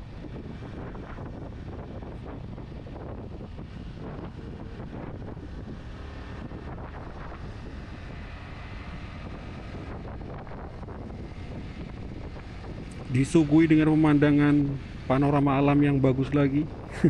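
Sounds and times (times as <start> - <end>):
motorcycle engine hum: 0.0 - 17.0
road noise: 0.0 - 17.0
wind rushing over microphone: 0.0 - 17.0.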